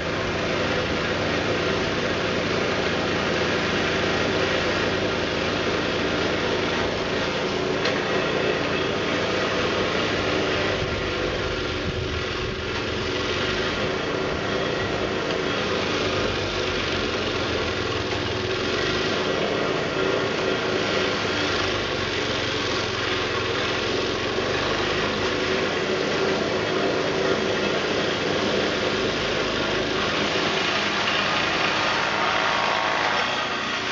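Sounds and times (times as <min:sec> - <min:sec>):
snow blower engine running: 0:00.0 - 0:33.9.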